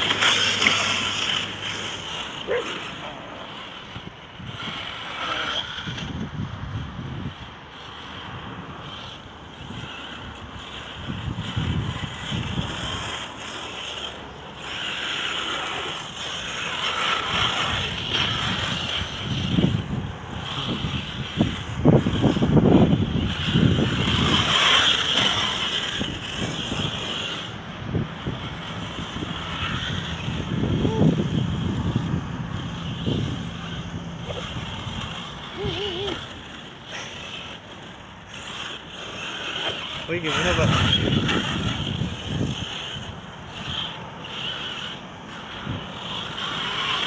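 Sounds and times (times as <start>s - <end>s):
radio-controlled truck running: 0.0s - 47.0s.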